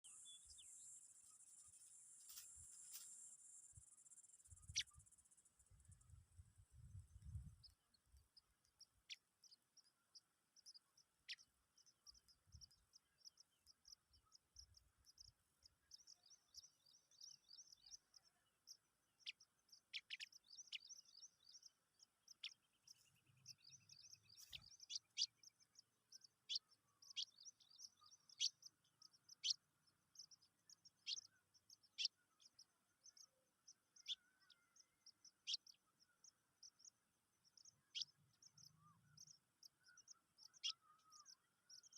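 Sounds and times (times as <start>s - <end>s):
nestlings peeping: 0.0s - 6.2s, 7.1s - 41.9s.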